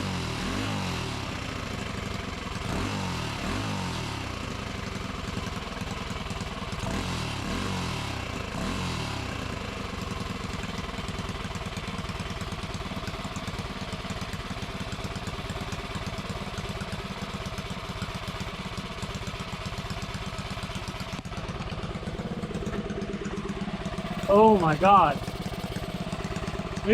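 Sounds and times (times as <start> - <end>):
engine revving and running: 0.0 - 18.7, 19.4 - 26.9.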